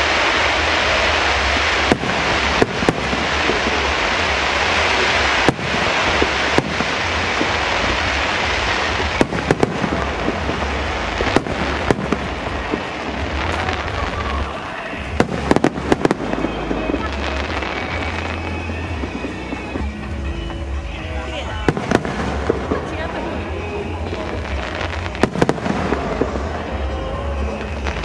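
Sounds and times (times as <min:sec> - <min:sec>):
fireworks bursting: 0:00.0 - 0:28.0
sharp firework bangs: 0:00.0 - 0:28.0.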